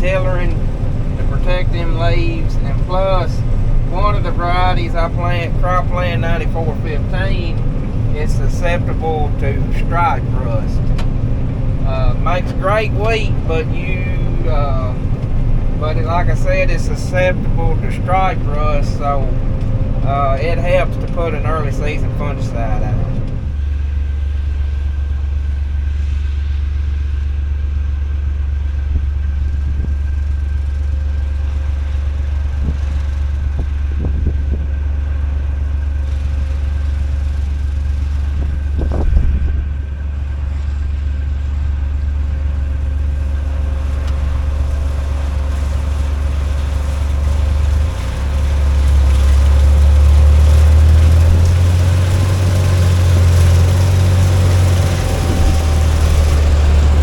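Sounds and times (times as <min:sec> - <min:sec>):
combine harvester rumbling: 0:00.0 - 0:57.0.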